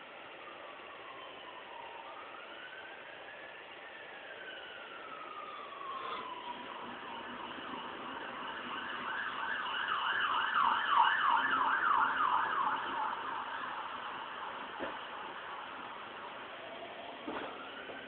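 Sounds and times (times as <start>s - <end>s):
siren wailing: 0.4s - 18.0s.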